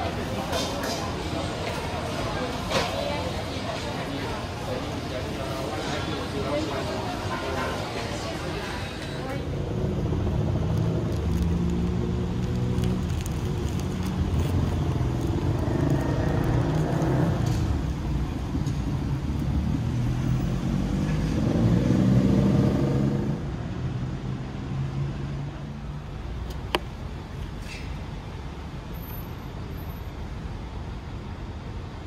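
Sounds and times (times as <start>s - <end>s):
traffic hum: 0.0s - 32.0s.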